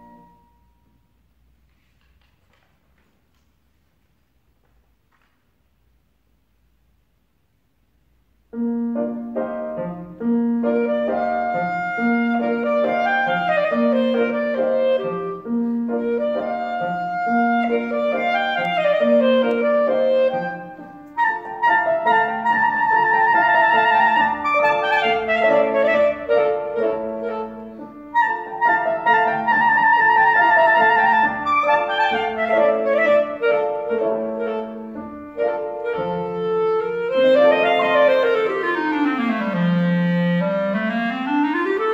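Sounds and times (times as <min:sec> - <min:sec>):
clarinet melody: 0:00.0 - 0:01.1, 0:08.5 - 0:41.9
piano accompaniment: 0:00.0 - 0:01.7, 0:08.5 - 0:41.9.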